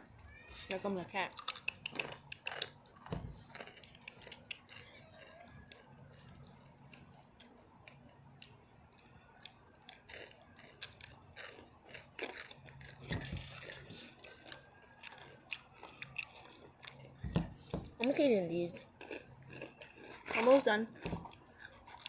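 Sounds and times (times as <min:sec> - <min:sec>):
chips being bitten and chewed: 0:01.3 - 0:17.2, 0:19.0 - 0:22.0.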